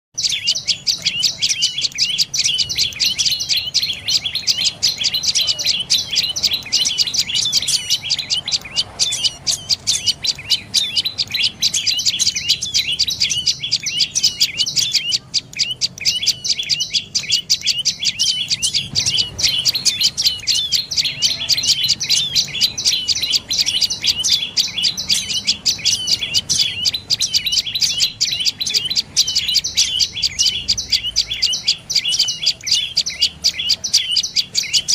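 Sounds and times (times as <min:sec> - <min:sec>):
bird calling with high sharp notes: 0:00.2 - 0:34.9.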